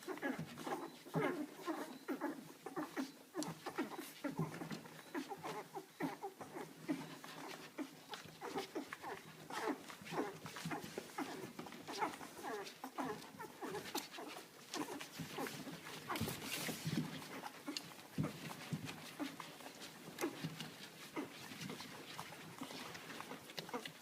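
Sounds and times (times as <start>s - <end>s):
puppies squeaking and whimpering: 0.0s - 24.0s.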